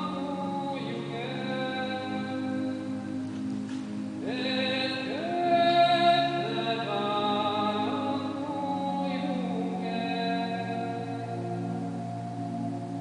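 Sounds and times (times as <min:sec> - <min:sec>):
slow sliding held notes: 0:00.0 - 0:13.0
steady low drone: 0:00.0 - 0:13.0.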